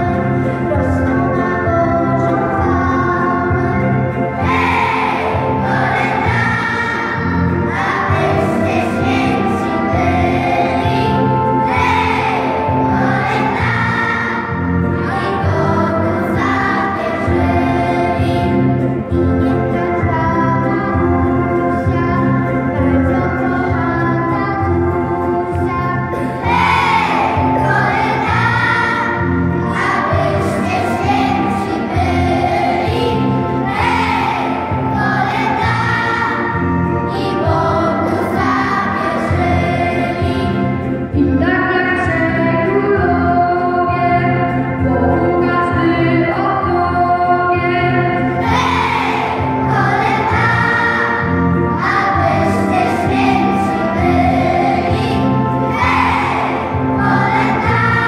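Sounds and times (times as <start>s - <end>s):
choir singing: 0.0s - 21.8s, 25.8s - 40.9s, 48.3s - 58.0s
musical accompaniment: 0.0s - 58.0s.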